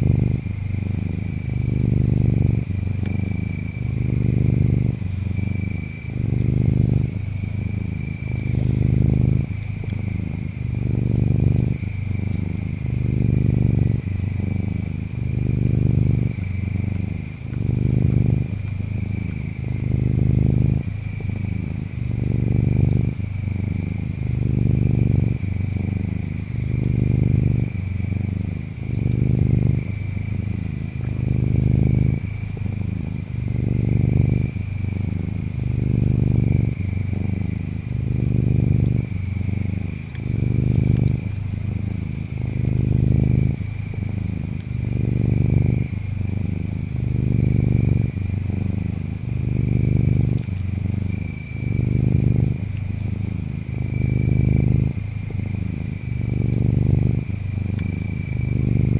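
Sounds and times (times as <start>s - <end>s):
cat purring: 0.0s - 58.9s
insects chirping: 0.0s - 58.9s.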